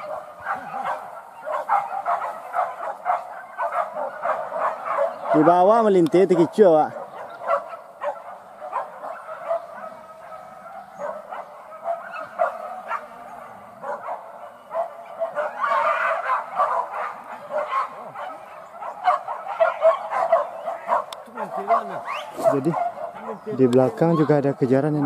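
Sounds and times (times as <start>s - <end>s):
dogs yelping and barking: 0.0s - 25.0s.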